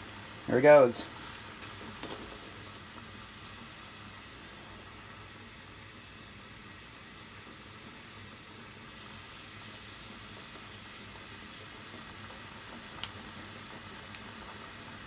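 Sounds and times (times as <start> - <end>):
water boiling in saucepan: 0.0 - 15.0.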